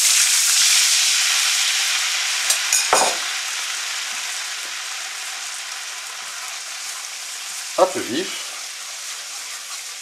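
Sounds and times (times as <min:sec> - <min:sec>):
sauce sizzling in a hot wok: 0:00.0 - 0:10.0.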